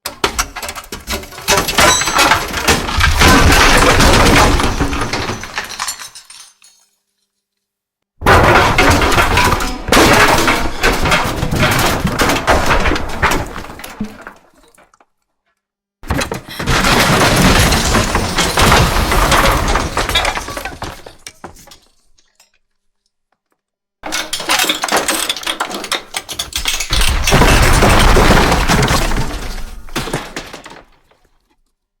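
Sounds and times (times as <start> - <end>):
ceiling collapsing crash and debris: 0.1 - 6.8, 8.2 - 15.0, 16.0 - 22.5, 24.0 - 31.5.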